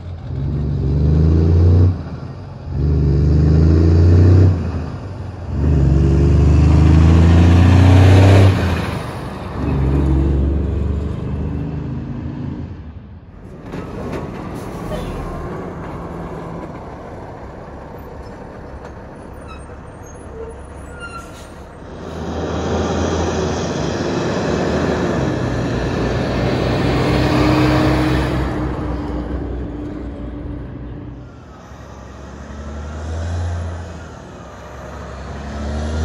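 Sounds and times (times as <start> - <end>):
dump truck driving past: 0.0 - 36.0
truck pulling away: 0.0 - 36.0.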